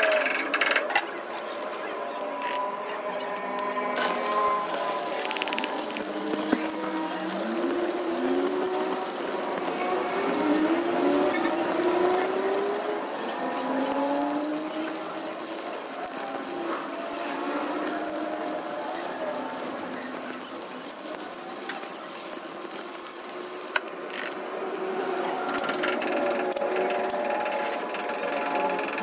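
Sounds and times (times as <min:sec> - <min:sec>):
welding machine whine: 0:02.4 - 0:24.4, 0:25.0 - 0:29.0
welding arc crackle and hiss: 0:03.6 - 0:24.4, 0:25.2 - 0:29.0.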